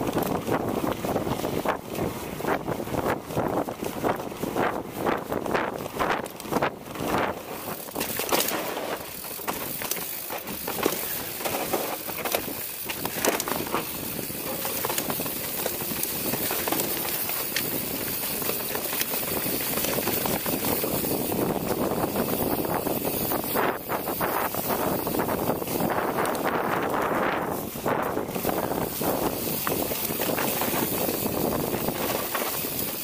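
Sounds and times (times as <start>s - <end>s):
bike tyres crunching on dirt: 0.0s - 33.0s.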